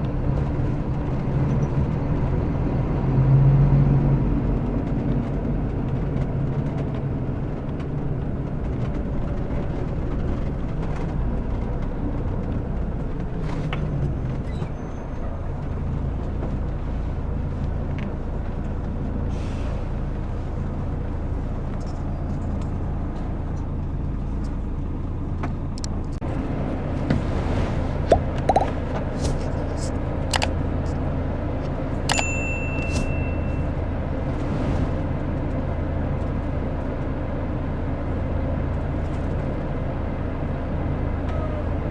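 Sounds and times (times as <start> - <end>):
diesel engine low rumble: 0.0 - 41.9.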